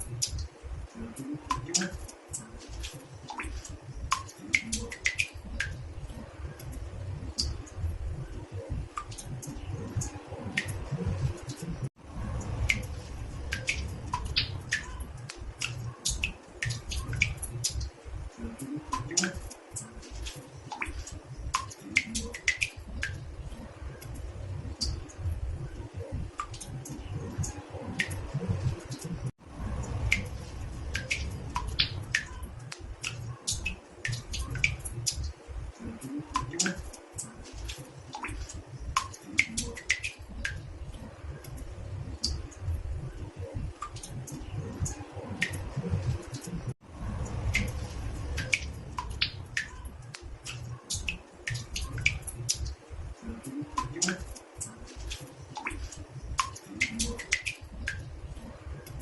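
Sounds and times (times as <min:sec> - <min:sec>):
water drops plinking in bathtub: 0:00.0 - 0:59.0
steady low rumble: 0:03.5 - 0:20.3, 0:21.0 - 0:39.4, 0:40.2 - 0:59.0.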